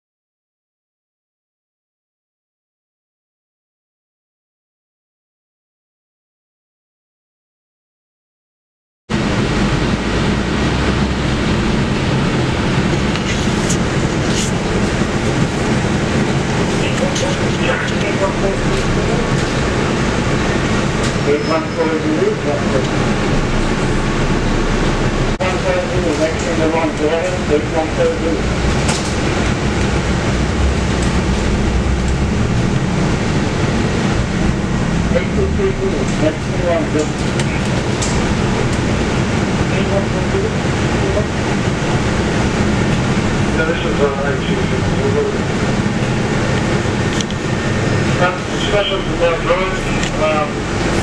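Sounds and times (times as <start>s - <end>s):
diesel bus engine running: 9.1s - 51.0s
road and body noise: 9.1s - 51.0s.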